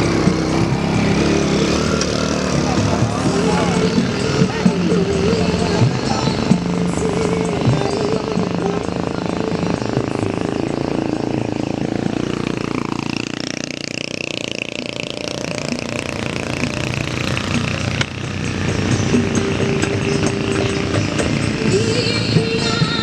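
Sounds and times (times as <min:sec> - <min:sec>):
vehicle engine under load: 0:00.0 - 0:23.0.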